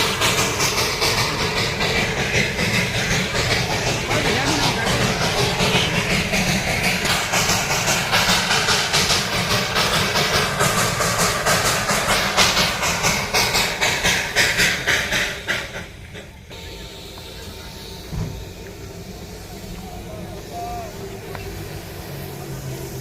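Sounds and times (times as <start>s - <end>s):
steady low rumble: 0.0s - 23.0s
steam locomotive chuffing: 0.0s - 23.0s.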